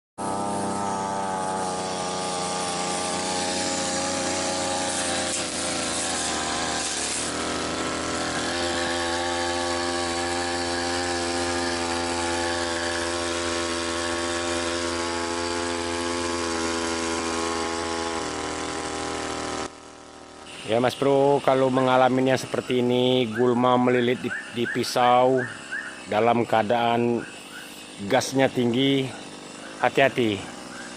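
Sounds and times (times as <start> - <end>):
brush cutter engine at high throttle: 0.2 - 30.9.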